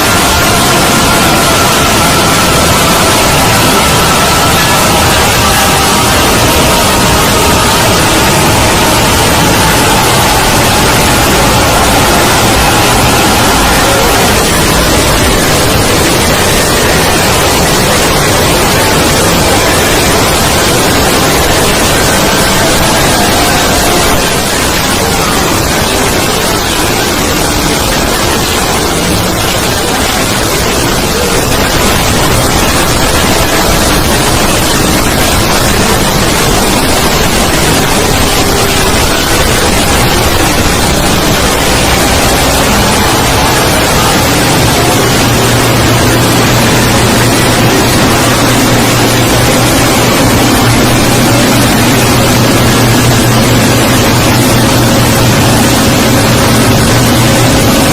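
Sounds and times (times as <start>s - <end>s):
static hiss: 0.0s - 57.9s.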